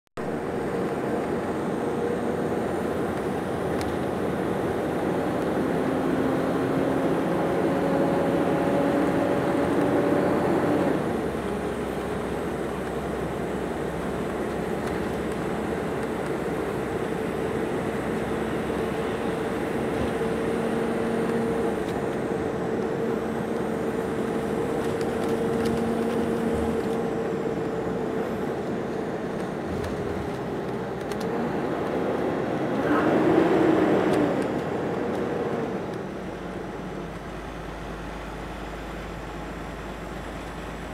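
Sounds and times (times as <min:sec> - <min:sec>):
faint engine whine: 0:00.2 - 0:40.9.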